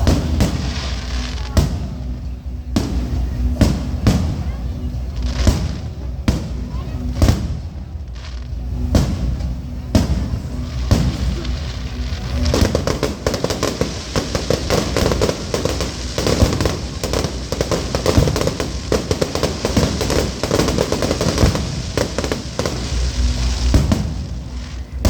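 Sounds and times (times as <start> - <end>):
fireworks crackling: 0.0 - 25.0.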